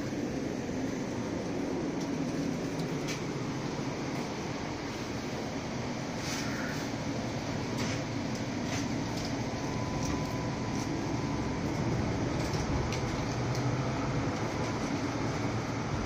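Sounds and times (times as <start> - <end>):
faint steady whine: 0.0 - 16.0
tram running rumble: 0.0 - 16.0.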